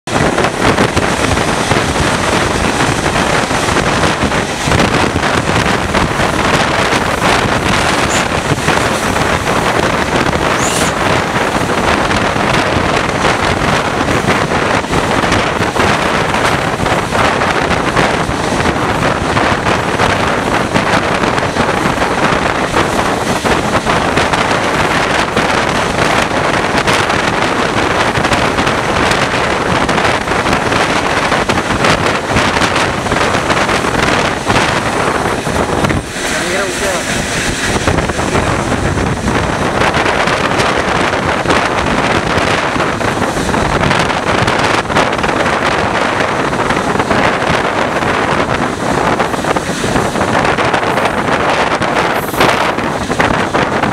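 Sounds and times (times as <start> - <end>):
diesel locomotive running: 0.0 - 53.9
train wheels on rails: 0.0 - 53.9
wind buffeting microphone: 0.0 - 53.9.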